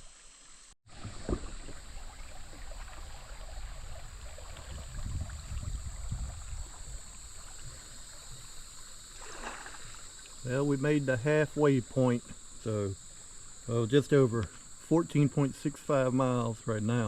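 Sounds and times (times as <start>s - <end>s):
water sloshing around a kayak: 0.9s - 15.0s.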